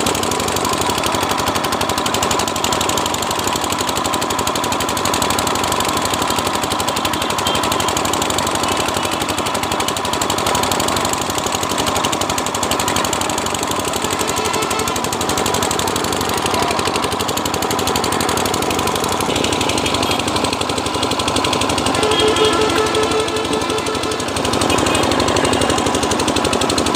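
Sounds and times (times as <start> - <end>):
engine running with knocking beat: 0.0 - 26.9.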